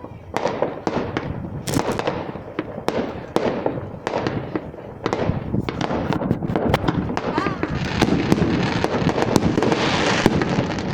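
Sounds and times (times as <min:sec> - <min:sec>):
fireworks bangs and crackling: 0:00.0 - 0:10.9.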